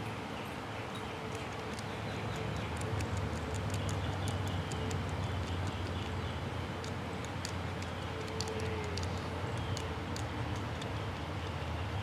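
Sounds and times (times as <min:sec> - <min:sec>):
light irregular ticks: 0:01.2 - 0:11.8.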